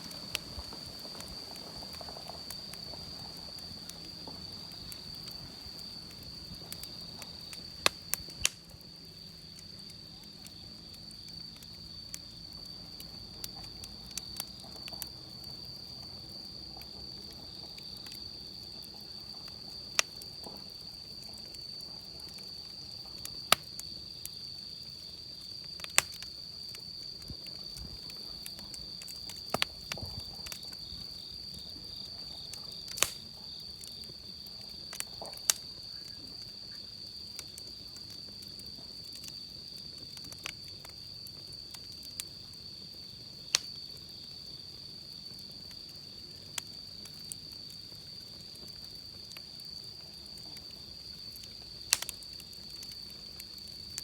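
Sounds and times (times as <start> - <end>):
insects trilling: 0.0 - 54.0
wood fire crackling: 0.0 - 54.0.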